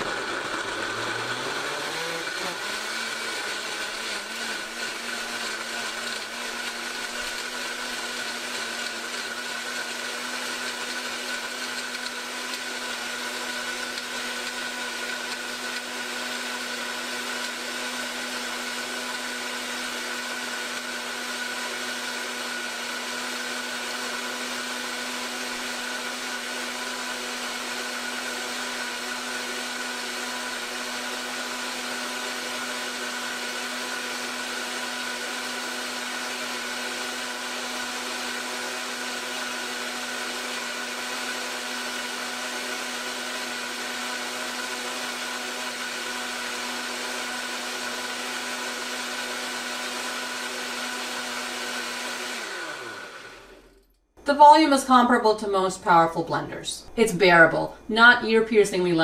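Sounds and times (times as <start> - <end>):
blender motor whine: 0.0 - 59.0.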